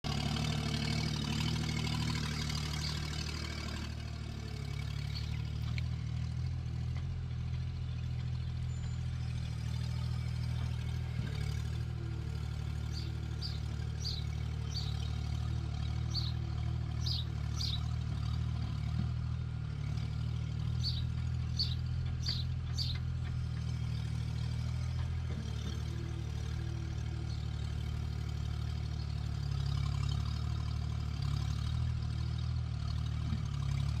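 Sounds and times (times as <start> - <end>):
skid steer engine running: 0.0 - 34.0.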